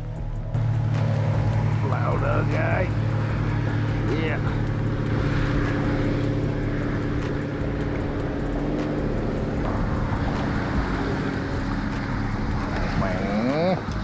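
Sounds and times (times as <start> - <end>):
engine humming: 0.0 - 14.0
wind: 0.0 - 14.0.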